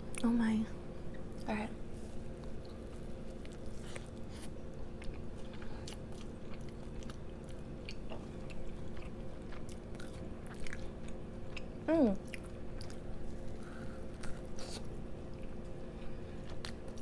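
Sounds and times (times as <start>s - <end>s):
low electrical hum: 0.0s - 17.0s
person chewing food: 2.2s - 17.0s.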